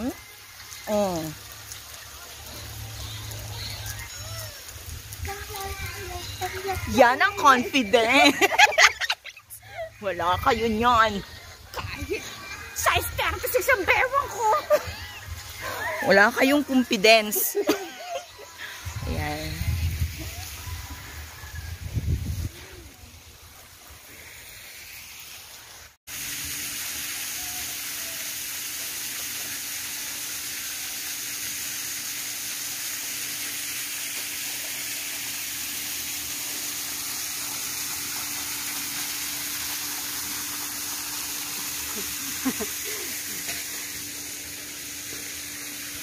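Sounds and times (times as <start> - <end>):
splashing pool water: 0.0 - 21.8, 22.4 - 46.0.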